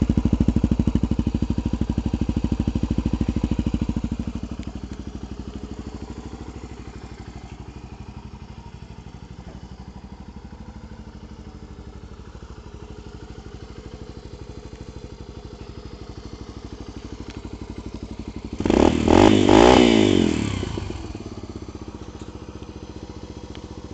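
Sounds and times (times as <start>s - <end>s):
dirt bike engine idling and revving: 0.0s - 23.9s.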